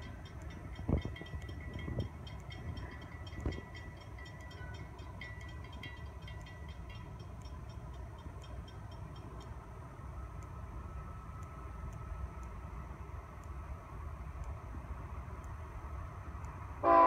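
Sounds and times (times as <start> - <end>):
light high ticking: 0.0 - 16.6
distant freight train rumble: 0.0 - 17.0.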